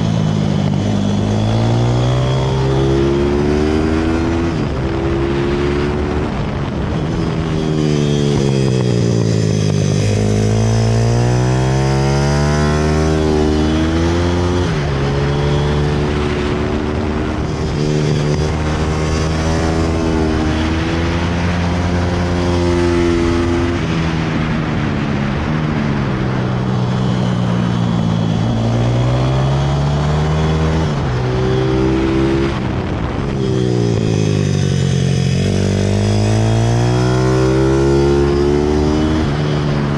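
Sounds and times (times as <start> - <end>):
pit bike engine accelerating: 0.0 - 39.9
wind rushing: 0.0 - 39.9.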